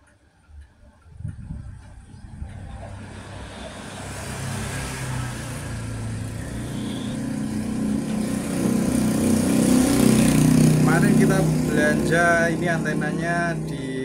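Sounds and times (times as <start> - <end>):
vehicle engine humming: 0.4 - 14.0.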